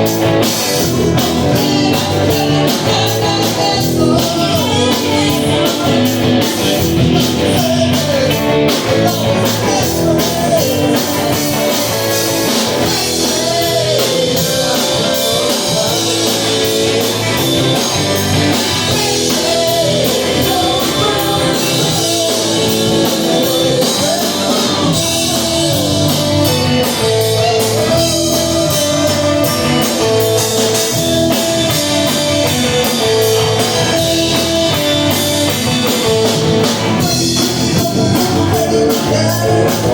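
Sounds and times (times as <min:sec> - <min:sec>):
drum kit: 0:00.0 - 0:39.9
electric guitar: 0:00.0 - 0:39.9
live rock band playing: 0:00.0 - 0:39.9.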